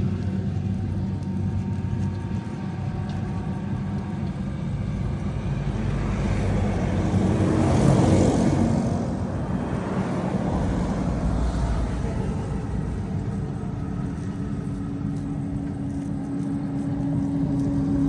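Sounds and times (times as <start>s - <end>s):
low engine hum: 0.0s - 18.0s
vehicle driving past: 2.4s - 18.0s.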